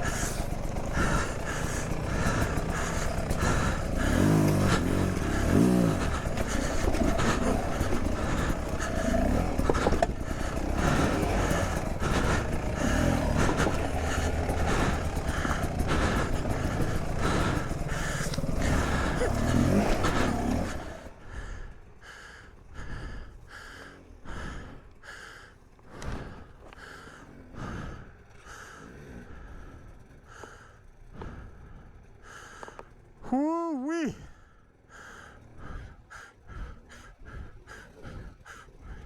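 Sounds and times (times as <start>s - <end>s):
dirt bike engine revving: 0.0s - 32.6s.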